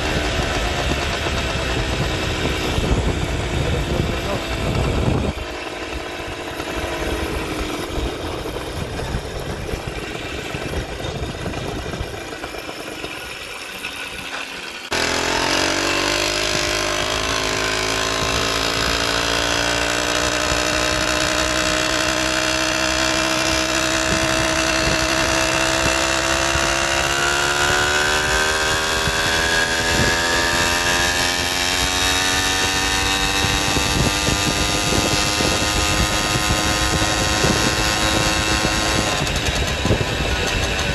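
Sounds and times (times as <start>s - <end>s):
wind noise: 0.0s - 14.3s, 14.9s - 40.9s
small motorbike engine running: 0.0s - 40.9s.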